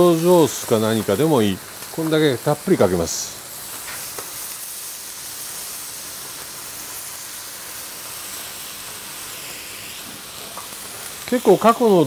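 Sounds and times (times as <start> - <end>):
vinegar sizzling in a hot pan: 0.0 - 12.0.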